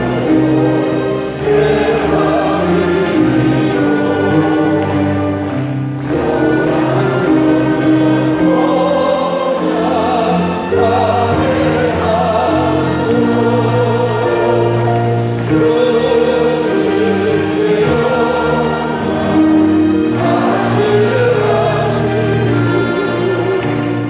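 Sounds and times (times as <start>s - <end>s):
choir singing a slow hymn: 0.0s - 24.0s
held accompanying chords: 0.0s - 24.0s.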